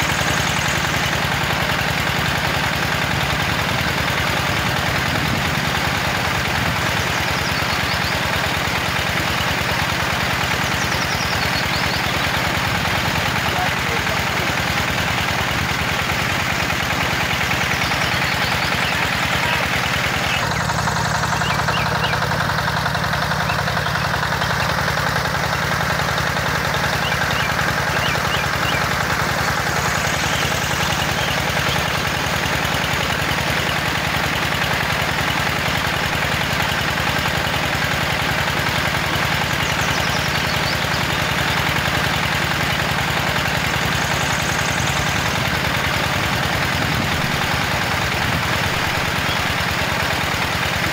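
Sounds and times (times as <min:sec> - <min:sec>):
small petrol engine running: 0:00.0 - 0:50.9.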